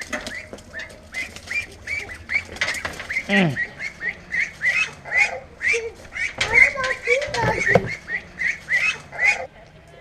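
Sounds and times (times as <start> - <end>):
ducklings peeping: 0.0 - 9.5.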